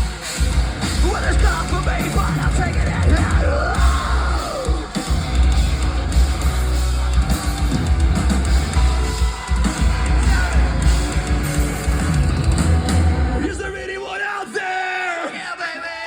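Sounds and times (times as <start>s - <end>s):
live heavy rock band: 0.0s - 15.1s.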